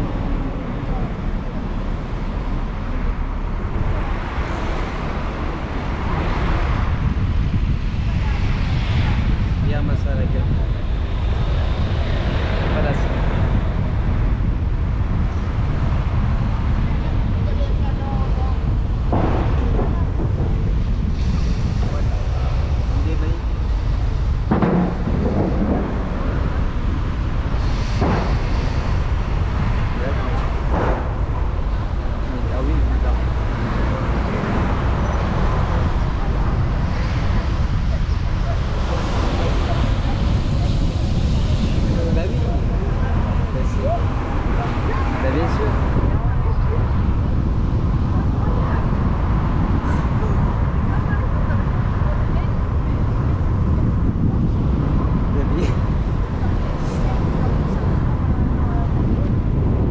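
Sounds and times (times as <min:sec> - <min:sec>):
vehicle running: 0:00.0 - 0:59.9
whooshing gusts: 0:00.0 - 0:59.9
wind buffeting microphone: 0:00.0 - 0:59.9.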